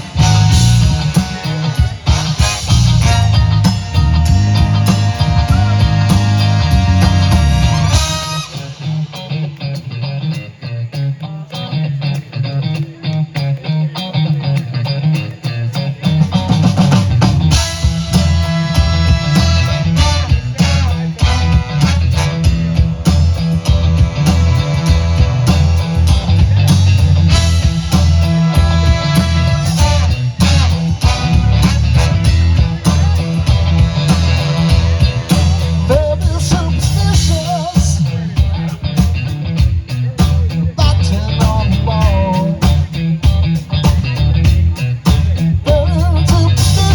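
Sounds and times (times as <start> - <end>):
drum kit playing: 0.0 - 11.1, 15.1 - 46.9
electric guitar: 0.0 - 46.9
live funk-rock band: 0.0 - 46.9.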